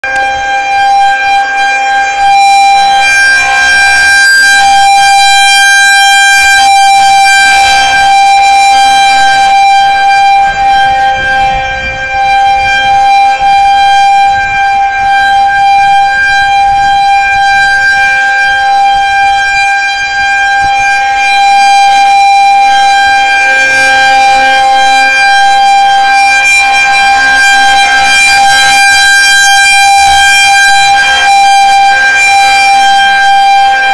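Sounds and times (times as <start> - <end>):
warning siren steady tone: 0.0 - 33.9.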